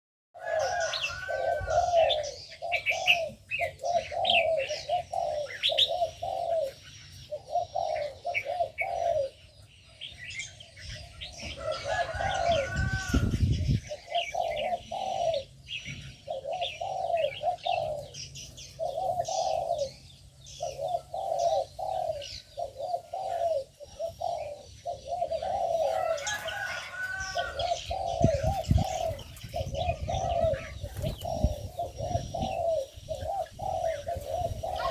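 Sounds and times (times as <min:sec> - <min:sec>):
doves cooing: 0:00.4 - 0:34.9
small birds chirping: 0:00.4 - 0:34.9.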